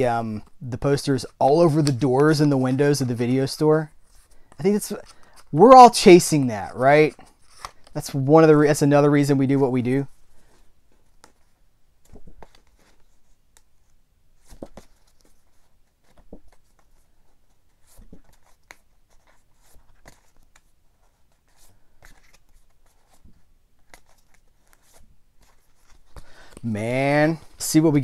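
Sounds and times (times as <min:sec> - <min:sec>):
paper cards rustling: 0:00.0 - 0:28.0.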